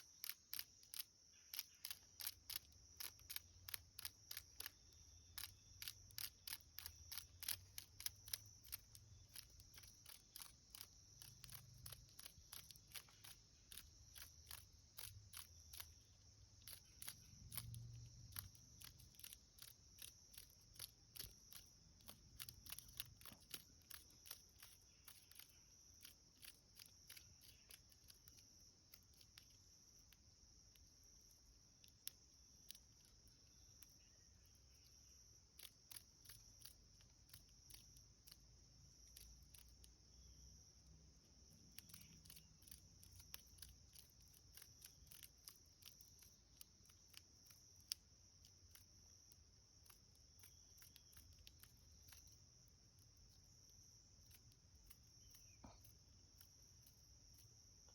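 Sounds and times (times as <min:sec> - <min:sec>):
cicada distress buzzes: 0:00.0 - 0:57.8
high-pitched insect drone: 0:00.0 - 0:57.8.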